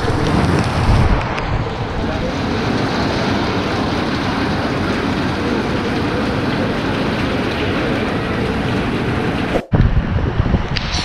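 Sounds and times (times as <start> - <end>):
heavy rain: 0.0 - 11.0
wind buffeting microphone: 0.0 - 11.0.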